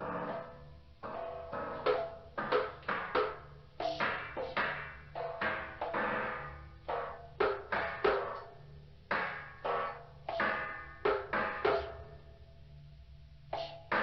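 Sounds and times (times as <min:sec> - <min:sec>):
struck percussion ringing: 0:00.0 - 0:12.6.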